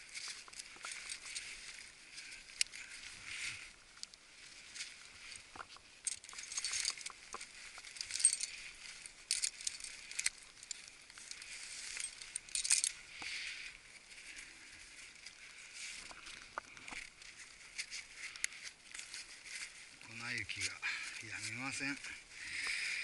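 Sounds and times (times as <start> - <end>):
ice grains pattering: 0.0 - 23.0.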